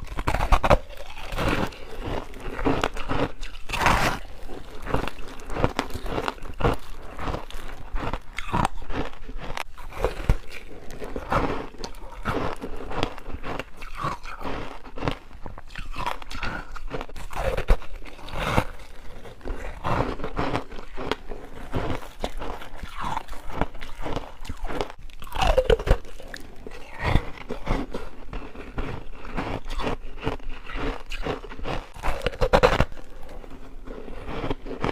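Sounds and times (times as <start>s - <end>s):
crisp crunches of chewing: 0.0s - 34.9s
wet mouth sounds: 0.0s - 34.9s.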